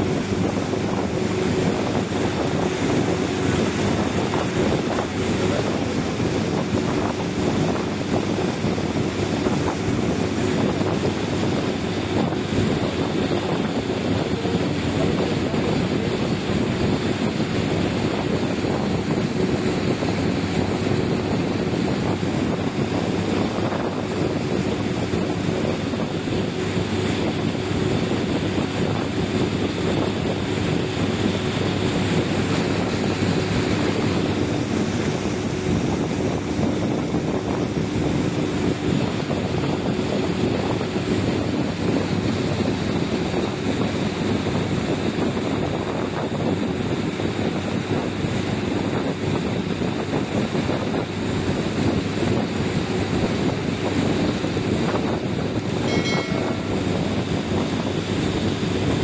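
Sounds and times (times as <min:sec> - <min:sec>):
boat engine running: 0:00.0 - 0:59.0
water splashing along hull: 0:00.0 - 0:59.0
wind buffeting microphone: 0:00.0 - 0:59.0.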